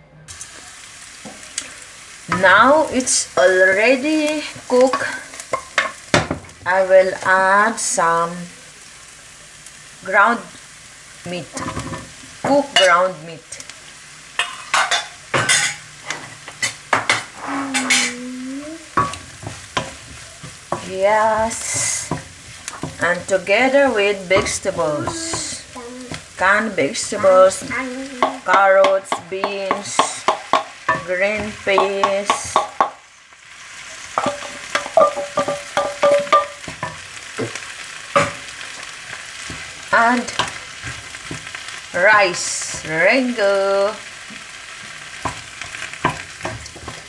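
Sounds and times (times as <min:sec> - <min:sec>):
food sizzling: 0:00.0 - 0:47.0
utensil scraping frying pan: 0:00.3 - 0:08.5, 0:11.2 - 0:47.0.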